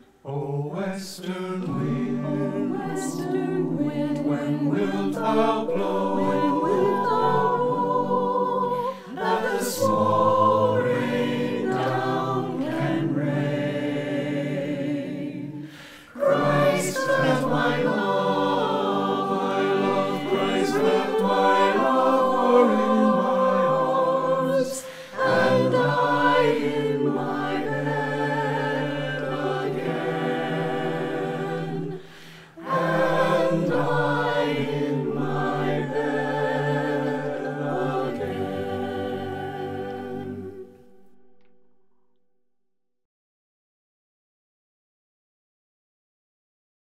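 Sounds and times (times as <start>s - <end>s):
choir singing sustained chords: 0.0s - 41.9s.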